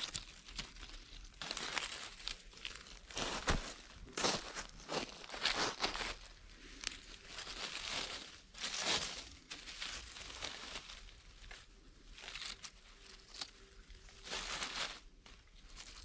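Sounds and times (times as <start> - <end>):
dry leaves rustling and crinkling: 0.0 - 16.0.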